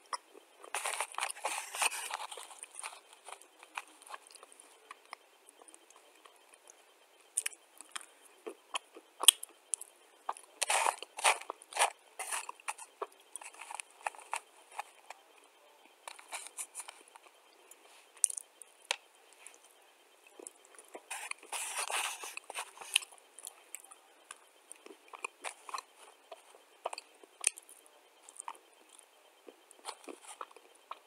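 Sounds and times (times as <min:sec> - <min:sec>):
clay chunks being chewed: 0:00.1 - 0:06.8, 0:07.4 - 0:15.2, 0:20.3 - 0:31.0.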